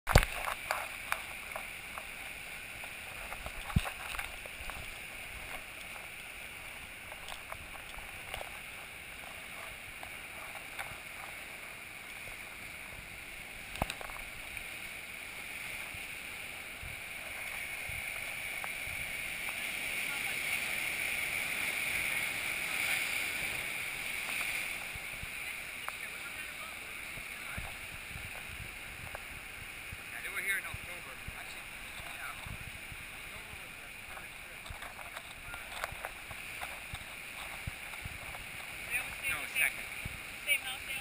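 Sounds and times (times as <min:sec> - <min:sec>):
surf breaking over boulders: 0:00.1 - 0:41.0.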